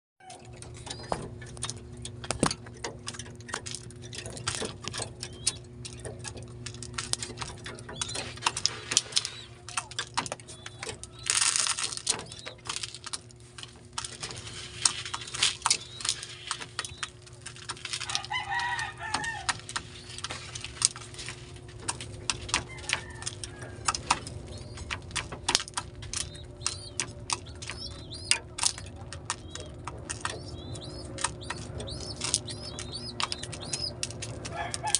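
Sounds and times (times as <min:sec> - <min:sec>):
pigeons tapping and clicking: 0:00.2 - 0:34.9
steady low hum: 0:00.4 - 0:34.9.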